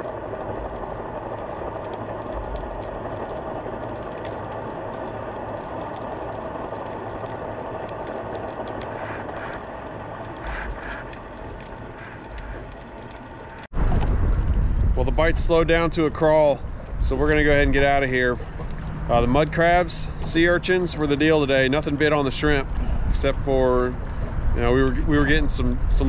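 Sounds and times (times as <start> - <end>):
faint underwater clicks and crackles: 0.0 - 26.0
muffled underwater wash: 0.0 - 26.0.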